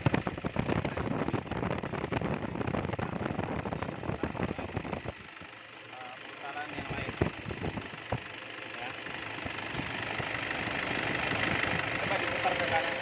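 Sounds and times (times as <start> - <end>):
engine knocking clatter: 0.0 - 13.0.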